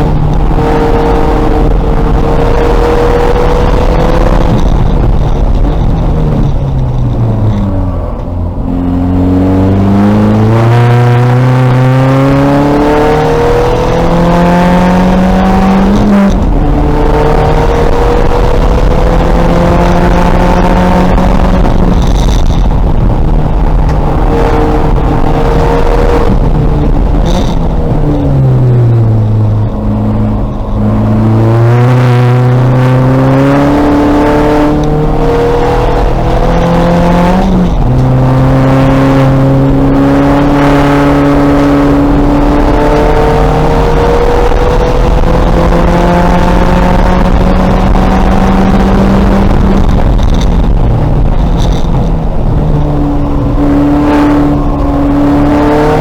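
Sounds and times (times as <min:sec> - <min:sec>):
gear change: 0:00.0 - 0:56.0
race car engine revving: 0:00.0 - 0:56.0.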